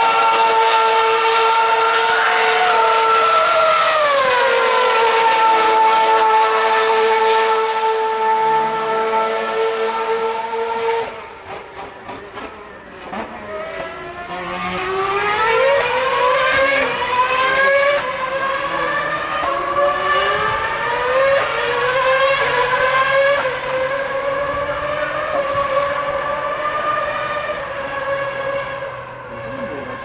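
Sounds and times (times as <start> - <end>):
racing car engine revving: 0.0 - 30.0.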